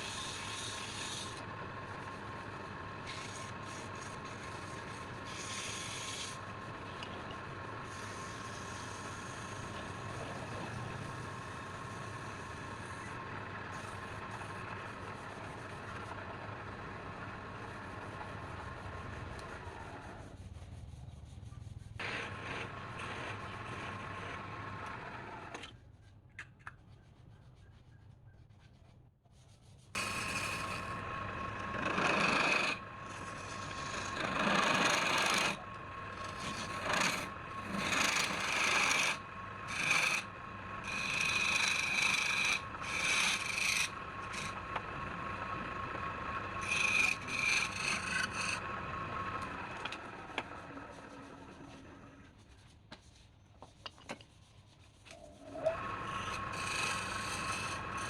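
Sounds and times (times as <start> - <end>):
woodturning lathe running: 0.0 - 20.2, 22.0 - 25.5, 30.0 - 52.2, 55.4 - 58.0
tool scraping spinning wood: 0.0 - 20.8, 21.9 - 25.8, 29.7 - 58.0.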